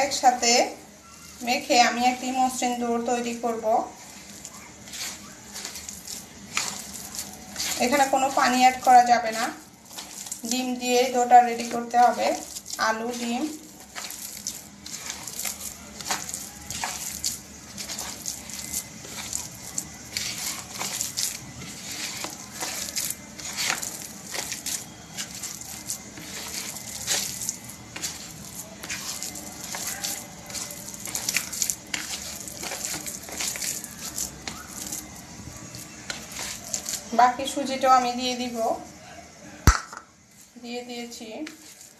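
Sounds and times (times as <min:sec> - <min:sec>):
hand squelching wet mixture: 0:00.0 - 0:38.9, 0:39.7 - 0:41.9.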